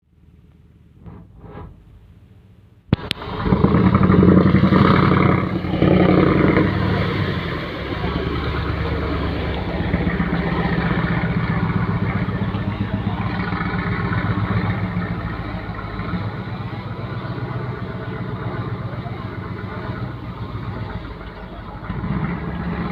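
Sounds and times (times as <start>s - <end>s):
boat diesel engine running: 0.1s - 22.9s.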